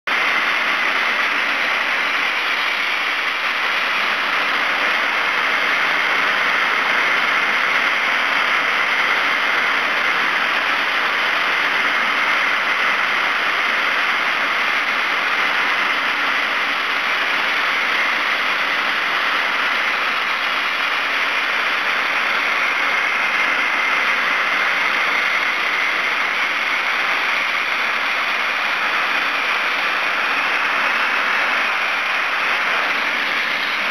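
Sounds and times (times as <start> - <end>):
blasting nozzle hissing: 0.1 - 33.9.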